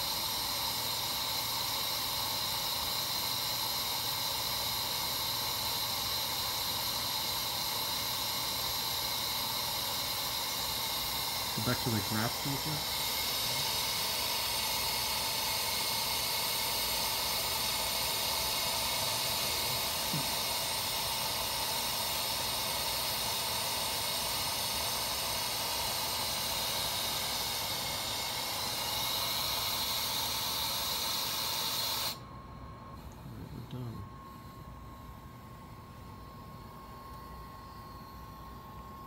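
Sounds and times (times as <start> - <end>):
gas hissing from machine: 0.0 - 32.2.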